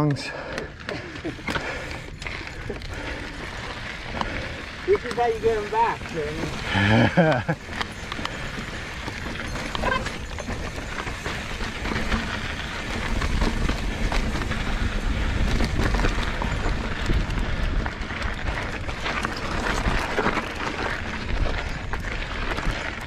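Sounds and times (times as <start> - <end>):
bike tyres crunching over gravel: 0.0 - 23.0
chain and frame rattling: 0.0 - 23.0.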